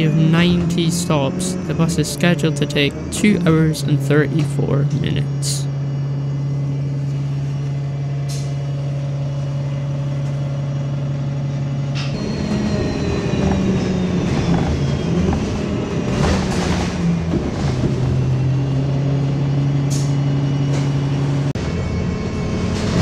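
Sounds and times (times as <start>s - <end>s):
bus driving: 0.0s - 23.0s
bus engine hum: 0.0s - 23.0s.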